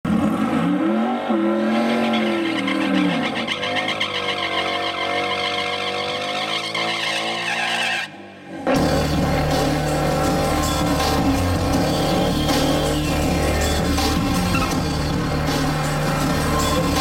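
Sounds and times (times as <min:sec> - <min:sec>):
car engine revving: 0:00.1 - 0:17.0.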